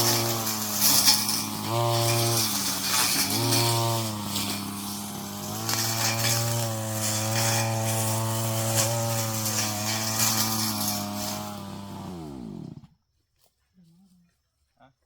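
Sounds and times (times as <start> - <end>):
brush cutter engine revving: 0.0 - 12.9.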